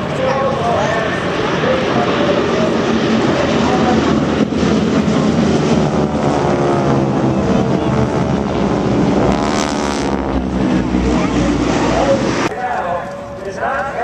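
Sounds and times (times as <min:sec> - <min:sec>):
propeller aircraft flying past: 0:00.0 - 0:14.0.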